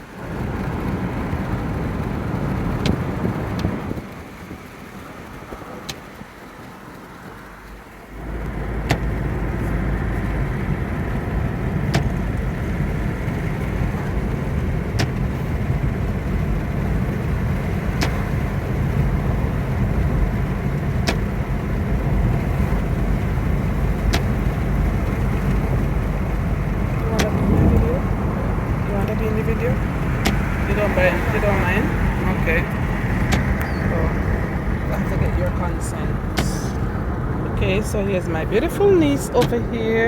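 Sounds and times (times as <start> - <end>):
car road and engine noise: 0.0 - 40.0.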